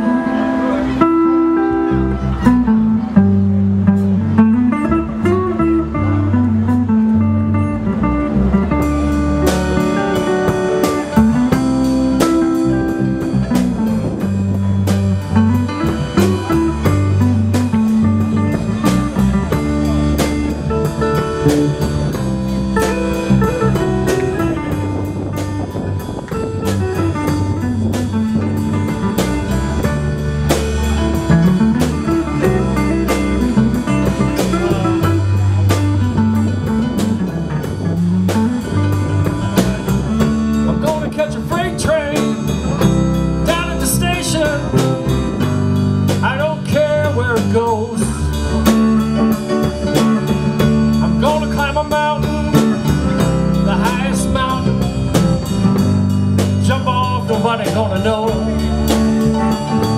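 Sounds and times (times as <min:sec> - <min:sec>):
bass line: 0:00.0 - 0:59.9
drum kit: 0:00.0 - 0:59.9
electric guitar with bent notes: 0:00.0 - 0:59.9.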